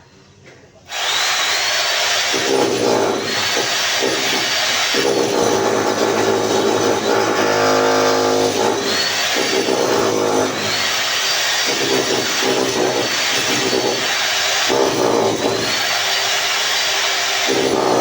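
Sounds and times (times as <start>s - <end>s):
electric power tool running: 0.9s - 18.0s.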